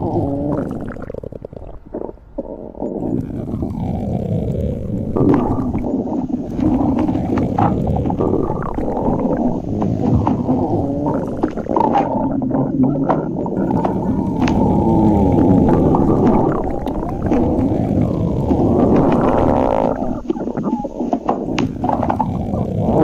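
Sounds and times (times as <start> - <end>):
stomach growling: 0.0 - 23.0.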